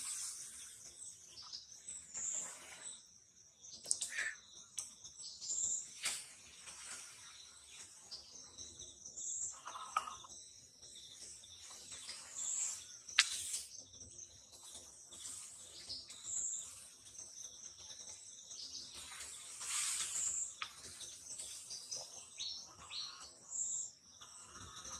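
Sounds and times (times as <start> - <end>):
birds chirping: 0.0 - 24.9
insects calling: 3.7 - 7.0, 7.7 - 24.9.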